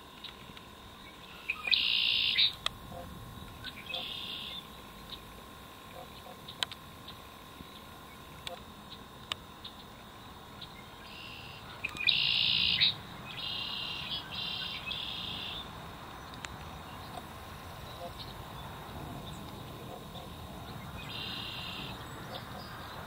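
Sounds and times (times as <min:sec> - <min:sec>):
high buzzy trilled animal calls: 0:00.1 - 0:15.8, 0:16.8 - 0:23.0.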